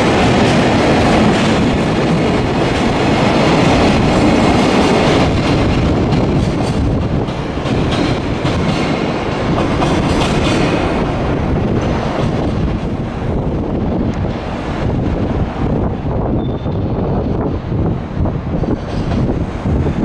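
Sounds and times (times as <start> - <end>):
freight train rumble: 0.0 - 20.0.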